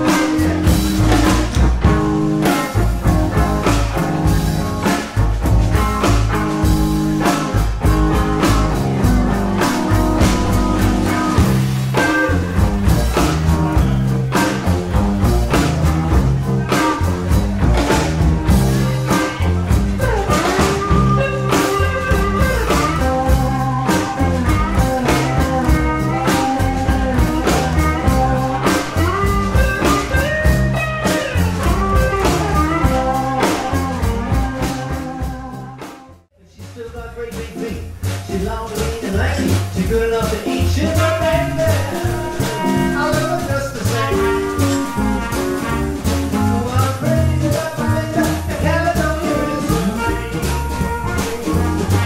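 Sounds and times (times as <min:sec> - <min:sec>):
electric guitar lead lines: 0:00.0 - 0:36.2, 0:40.5 - 0:48.4
drum kit with cymbals: 0:00.0 - 0:52.0
upright double bass: 0:00.0 - 0:52.0.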